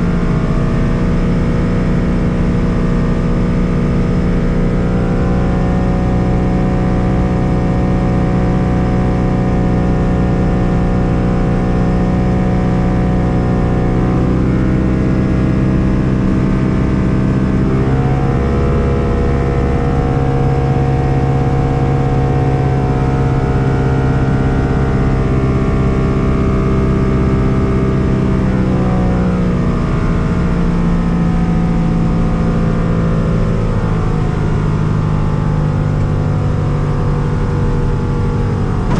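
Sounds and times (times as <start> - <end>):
propeller aircraft engine running: 0.0 - 38.9.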